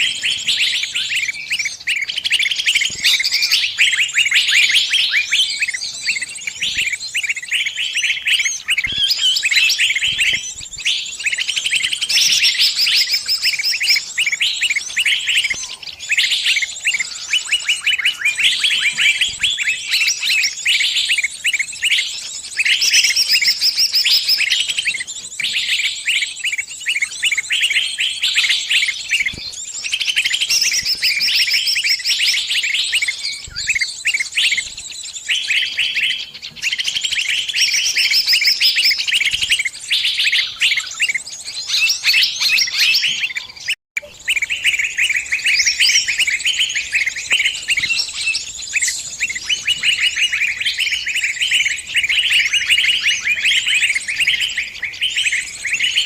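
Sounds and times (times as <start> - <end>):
small bird chirping shrilly: 0.0 - 56.0.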